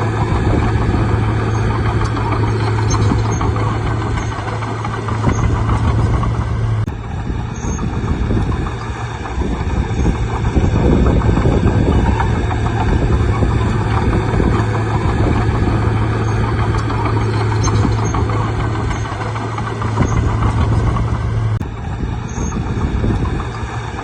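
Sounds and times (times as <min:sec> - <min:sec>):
diesel engine humming: 0:00.0 - 0:24.0
mechanical machine noise: 0:00.0 - 0:24.0.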